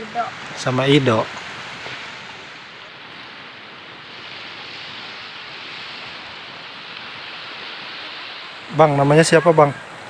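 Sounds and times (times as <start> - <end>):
gentle waves washing ashore: 0.0 - 10.0.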